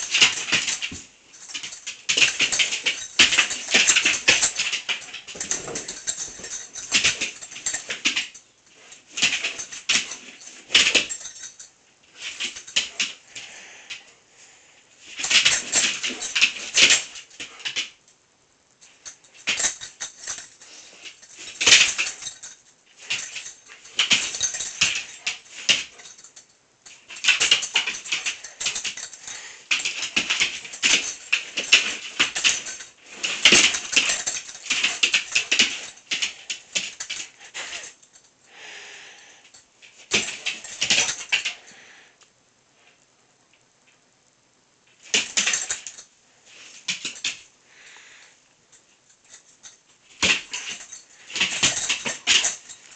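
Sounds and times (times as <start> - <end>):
dog claws clicking on hard floor: 0.0 - 14.1, 15.1 - 18.0, 18.8 - 38.3, 39.5 - 41.7, 44.9 - 46.1, 46.7 - 47.5, 48.7 - 52.9.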